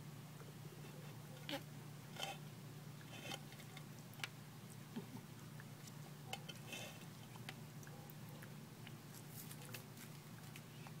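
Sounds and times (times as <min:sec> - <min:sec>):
faint low hum: 0:00.0 - 0:11.0
tortoise chewing with crunches: 0:00.8 - 0:11.0.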